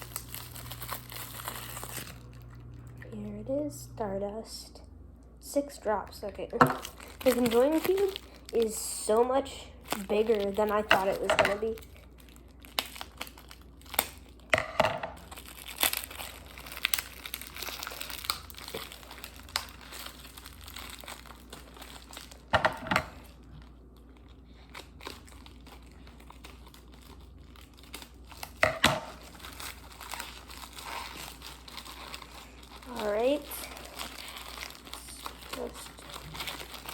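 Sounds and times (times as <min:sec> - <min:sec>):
packaging crinkling and tearing: 0:00.0 - 0:03.0, 0:06.3 - 0:36.9.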